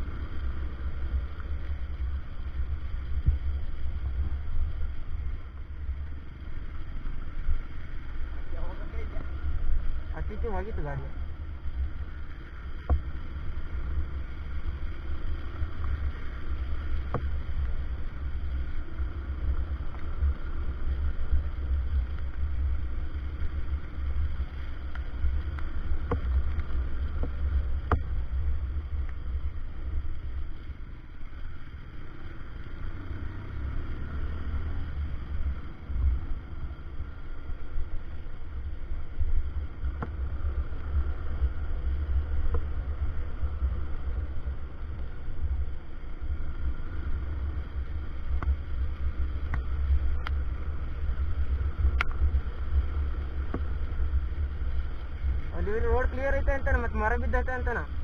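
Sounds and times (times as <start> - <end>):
motorcycle engine rumble: 0.0 - 58.0
road noise: 0.0 - 58.0.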